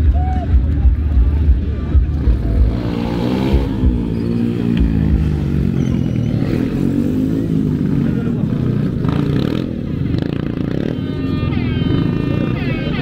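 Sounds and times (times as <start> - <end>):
motorcycle engine revving: 0.9 - 13.0.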